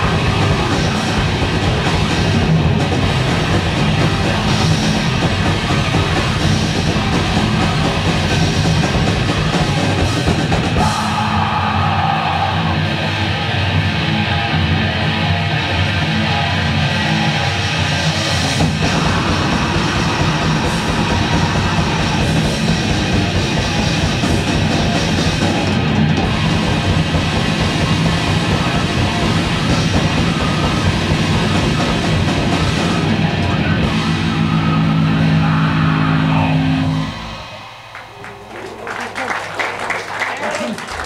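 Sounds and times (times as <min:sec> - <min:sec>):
distorted electric guitar: 0:00.0 - 0:39.6
drums: 0:00.0 - 0:41.0.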